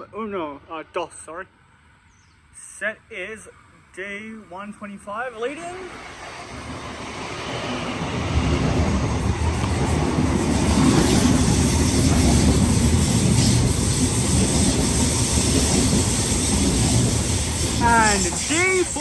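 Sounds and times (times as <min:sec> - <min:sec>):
electric train passing: 0:03.0 - 0:19.0.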